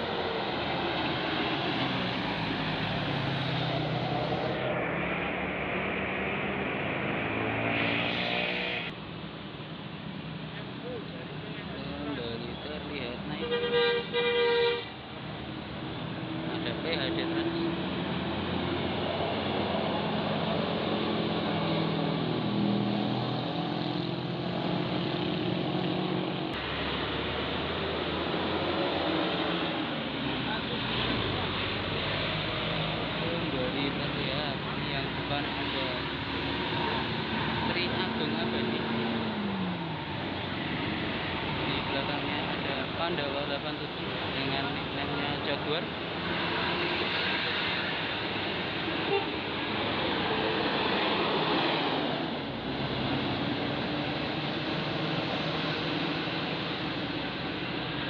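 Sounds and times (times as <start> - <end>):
bus diesel engine: 0.0 - 5.3, 8.9 - 58.0
road noise: 0.0 - 58.0.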